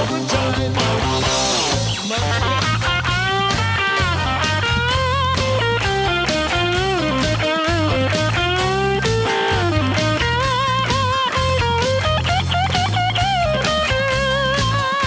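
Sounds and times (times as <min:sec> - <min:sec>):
electric guitar solo: 0:00.0 - 0:15.0
rock bass and drums: 0:00.0 - 0:15.0.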